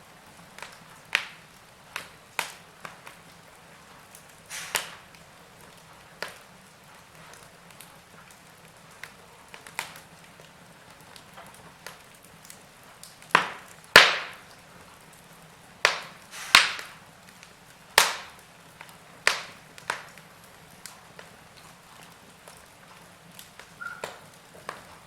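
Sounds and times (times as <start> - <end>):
faint steady hiss: 0.0 - 25.0
wood fire crackling: 0.0 - 25.0
sharp pops of fire: 0.4 - 10.2, 11.0 - 25.0.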